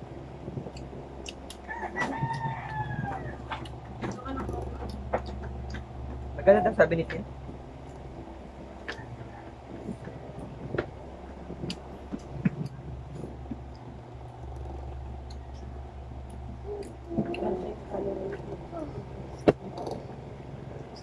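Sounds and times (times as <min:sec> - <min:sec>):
steady low hum: 0:00.0 - 0:21.0
chewing and handling food: 0:00.4 - 0:06.4, 0:07.0 - 0:21.0.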